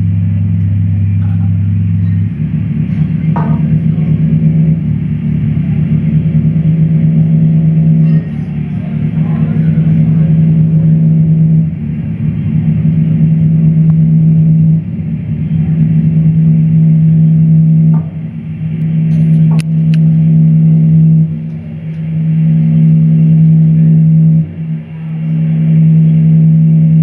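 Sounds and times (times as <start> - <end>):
low drone with overtones: 0.0 - 27.0.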